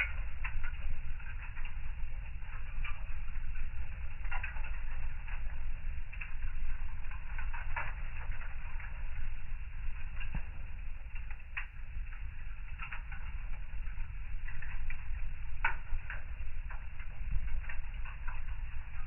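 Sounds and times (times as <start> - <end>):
steady low rumble: 0.0 - 19.0
wood fire crackling: 0.0 - 19.0.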